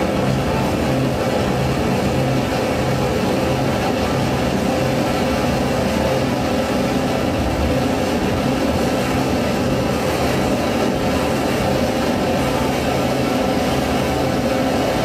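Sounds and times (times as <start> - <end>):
electronic noise drone: 0.0 - 15.0
low hum: 0.0 - 15.0.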